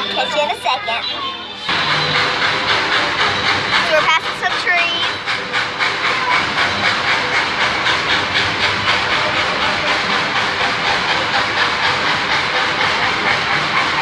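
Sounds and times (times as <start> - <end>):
steam locomotive and wheels rhythm: 0.0 - 14.0
steam hiss: 1.7 - 14.0.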